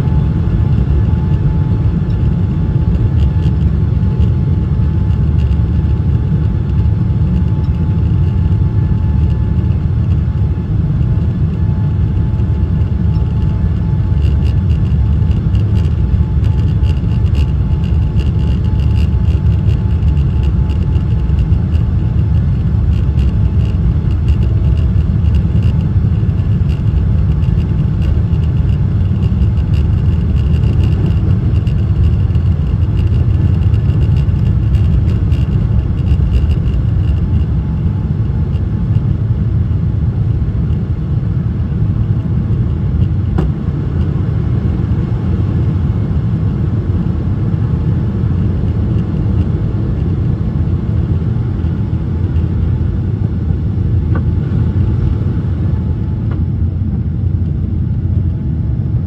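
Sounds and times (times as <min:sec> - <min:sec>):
jet engines deep rumble: 0:00.0 - 0:59.0.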